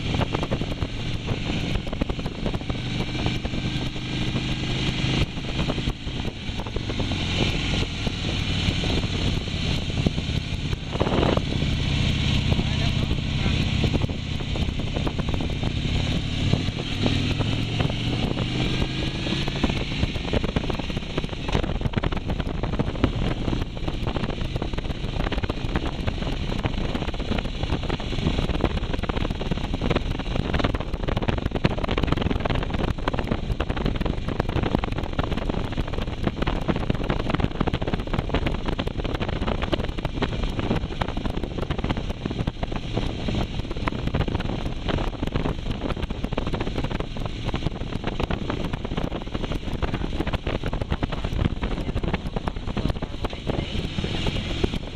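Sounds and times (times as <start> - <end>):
motorcycle engine accelerating: 0.0 - 54.9
wind buffeting microphone: 0.0 - 54.9.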